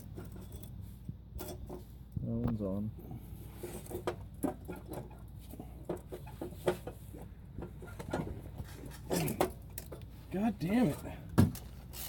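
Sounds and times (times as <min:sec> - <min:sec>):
metal exhaust parts clinking: 0:00.0 - 0:02.0, 0:03.4 - 0:12.0.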